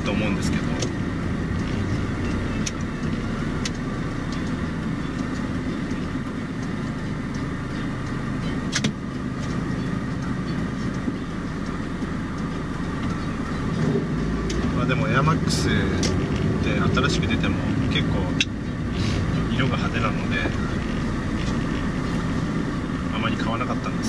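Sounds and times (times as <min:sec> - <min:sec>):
car engine and road hum: 0:00.0 - 0:24.0.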